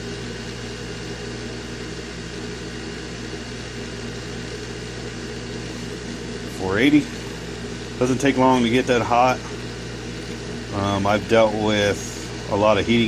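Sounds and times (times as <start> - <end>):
hot-air blower humming: 0.0 - 13.0.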